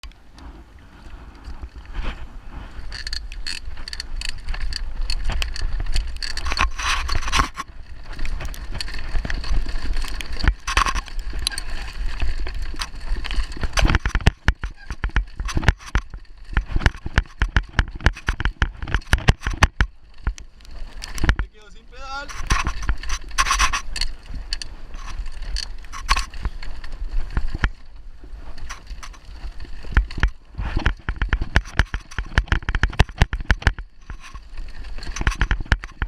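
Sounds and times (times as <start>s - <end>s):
wind rumble on microphone: 0.0s - 36.0s
bike rattling over rocks: 0.1s - 36.0s.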